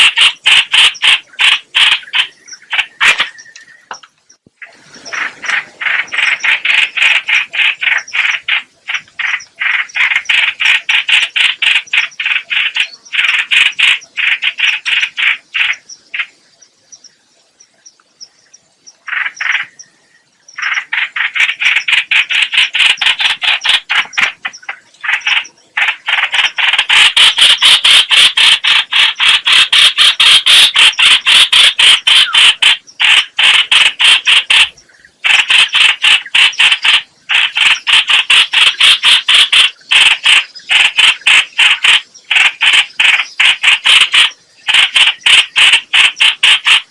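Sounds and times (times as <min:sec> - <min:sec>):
bird rattling call: 0:00.0 - 0:03.5, 0:05.0 - 0:16.3, 0:19.0 - 0:19.8, 0:20.6 - 0:46.9.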